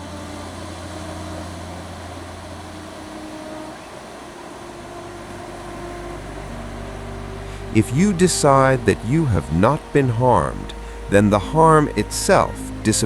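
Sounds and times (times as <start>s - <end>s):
low ambient drone: 0.0s - 13.0s
ocean waves: 0.0s - 13.0s.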